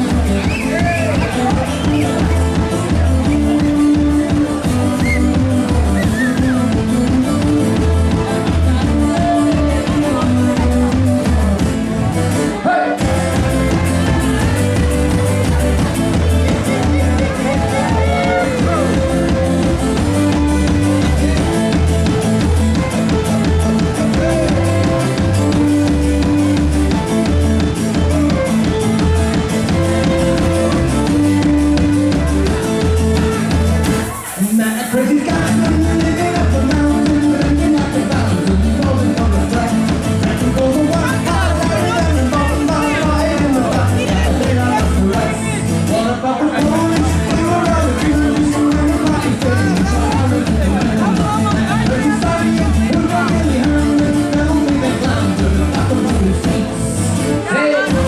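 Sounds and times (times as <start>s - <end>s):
drum kit beat: 0.0s - 12.4s, 13.0s - 58.0s
bass line: 0.0s - 58.0s
electric guitar: 0.0s - 58.0s
live band dance music: 0.0s - 58.0s.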